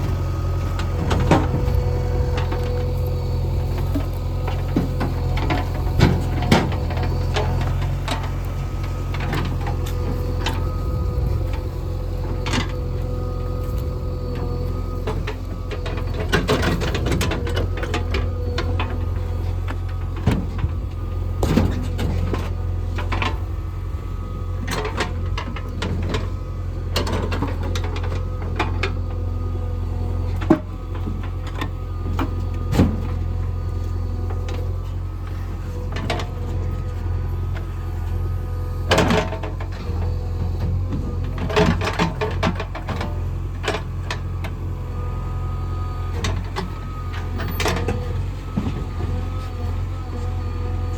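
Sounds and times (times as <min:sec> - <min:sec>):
diesel engine running under load: 0:00.0 - 0:50.9.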